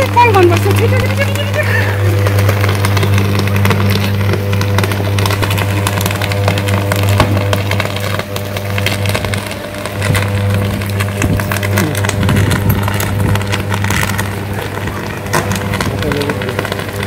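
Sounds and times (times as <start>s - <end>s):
electrical arc buzzing and crackling: 0.0s - 17.0s.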